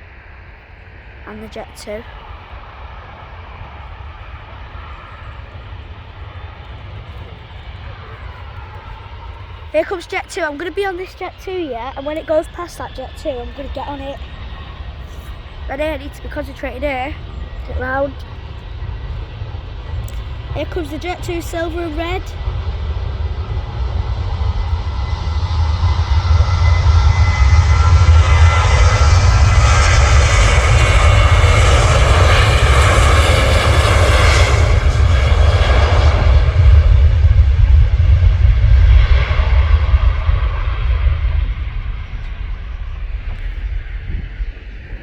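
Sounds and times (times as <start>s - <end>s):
jet engines passing: 0.0s - 45.0s.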